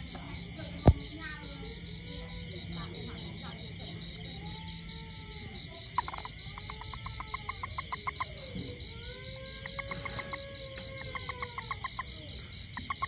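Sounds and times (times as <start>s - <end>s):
toad chirping pulses: 0.8s - 13.0s.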